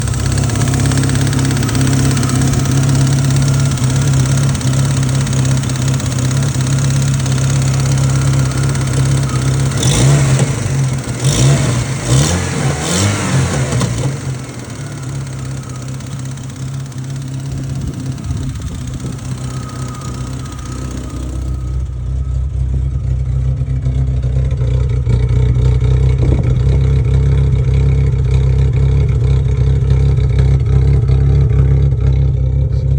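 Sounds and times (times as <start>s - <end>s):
vehicle engine running and revving: 0.0s - 32.9s.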